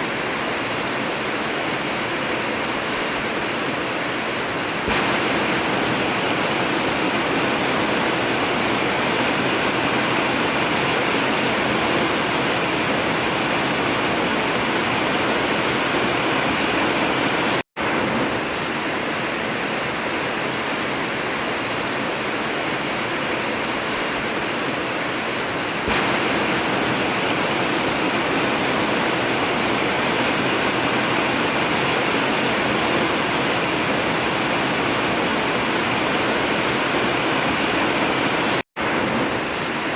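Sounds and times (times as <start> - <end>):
heavy rain on metal roof: 0.0 - 39.9.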